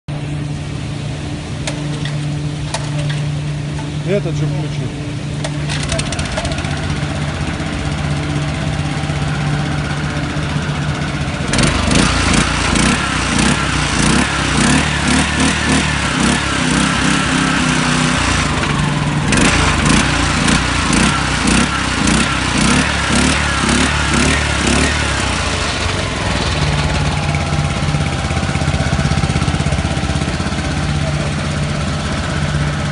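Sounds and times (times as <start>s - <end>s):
boat engine idling and revving: 0.1s - 32.9s.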